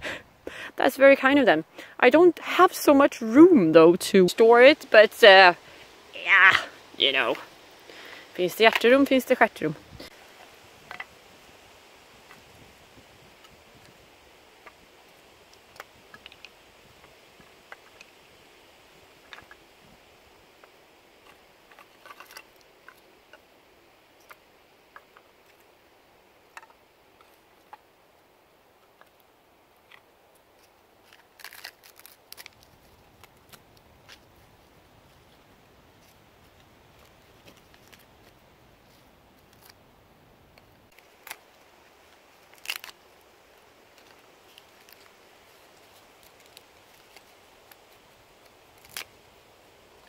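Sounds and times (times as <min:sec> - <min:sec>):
birch bark crinkling: 0:03.1 - 0:23.5, 0:28.8 - 0:39.9, 0:40.5 - 0:50.0.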